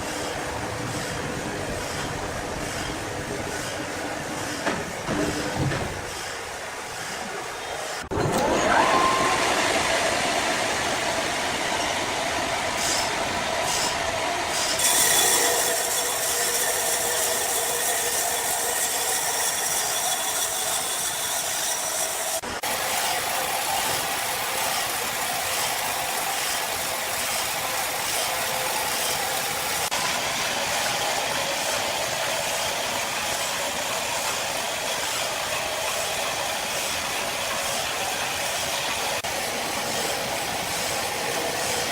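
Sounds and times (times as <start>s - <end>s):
sawmill saw cutting log: 0.0s - 41.9s.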